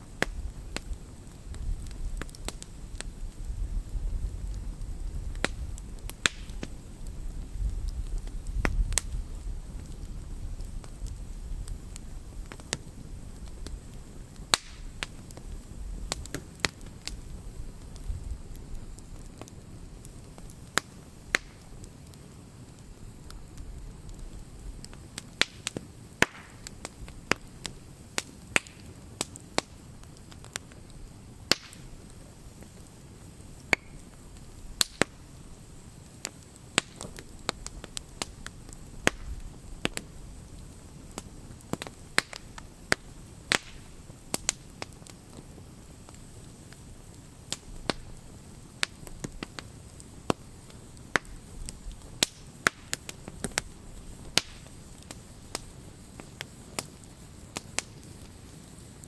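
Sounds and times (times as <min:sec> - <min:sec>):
campfire crackling and popping: 0:00.0 - 0:59.0
low noise of flames: 0:00.0 - 0:59.0.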